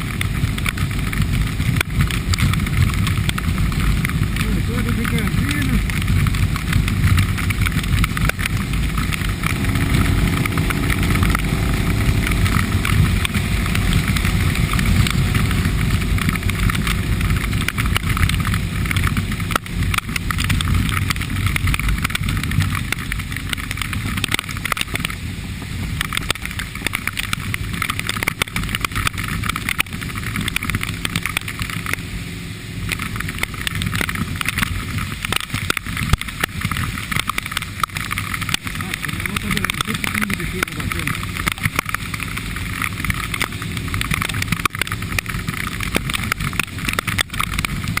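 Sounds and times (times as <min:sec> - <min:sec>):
motorcycle engine running: 0:00.0 - 0:48.0
tyres hissing on wet road: 0:00.0 - 0:48.0
wind rushing over microphone: 0:00.0 - 0:48.0.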